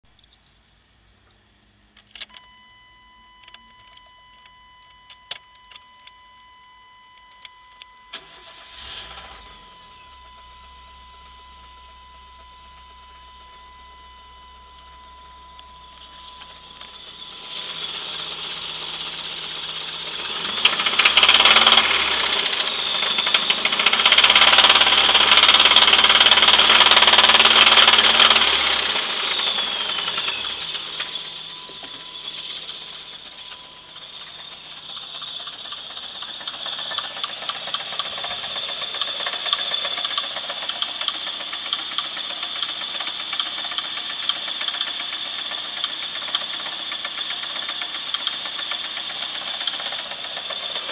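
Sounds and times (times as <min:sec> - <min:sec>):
car engine revving and idling: 0:08.2 - 0:50.9.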